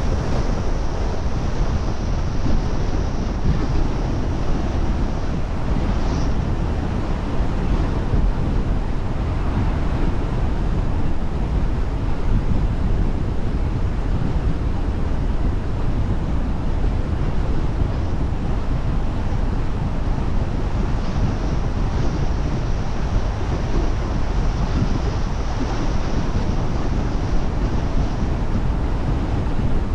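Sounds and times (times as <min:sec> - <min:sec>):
car wind and road noise: 0:00.0 - 0:29.9.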